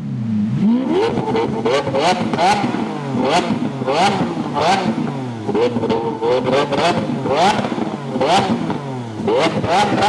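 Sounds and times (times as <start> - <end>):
sports car engine revving: 0.0 - 10.0.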